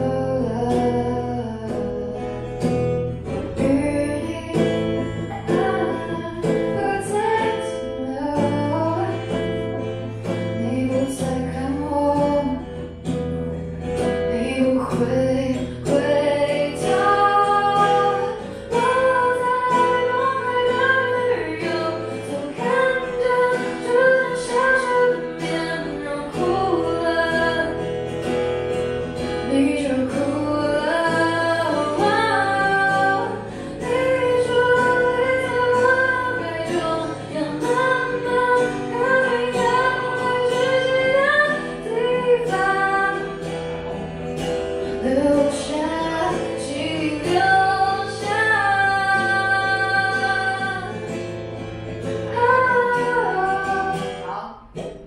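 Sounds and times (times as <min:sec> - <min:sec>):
acoustic guitar: 0:00.0 - 0:55.0
woman singing: 0:00.0 - 0:55.0.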